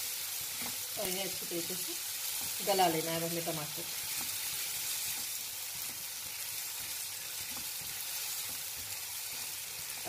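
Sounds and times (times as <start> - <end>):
onions sizzling in oil: 0.0 - 10.0
spatula stirring and scraping: 1.7 - 10.0.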